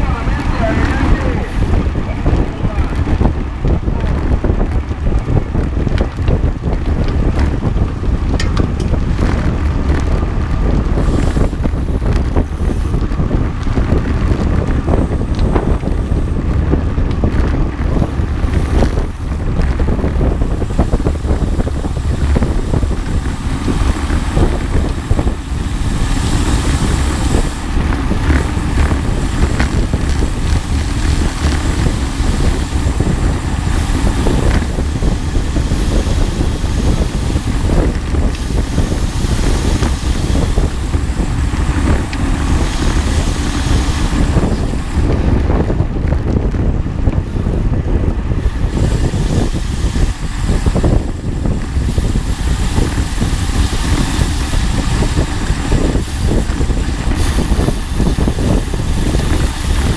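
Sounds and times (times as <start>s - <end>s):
low rumble: 0.0s - 59.9s
wind buffeting microphone: 0.0s - 59.9s.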